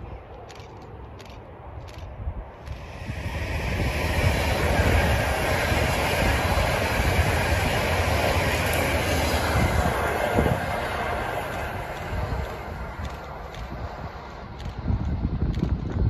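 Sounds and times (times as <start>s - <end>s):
train passing: 0.0s - 16.0s.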